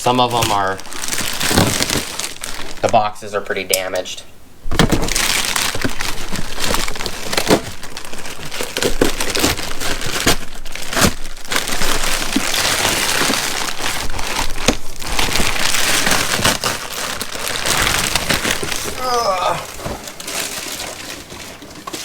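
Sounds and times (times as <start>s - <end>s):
plastic bag crinkling: 0.0s - 3.9s, 4.7s - 22.0s.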